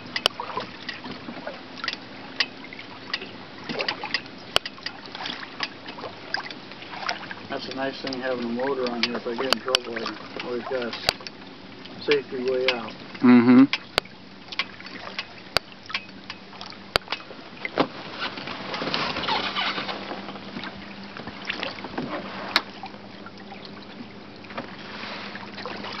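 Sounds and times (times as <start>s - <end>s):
water splashing along a boat hull: 0.0s - 26.0s.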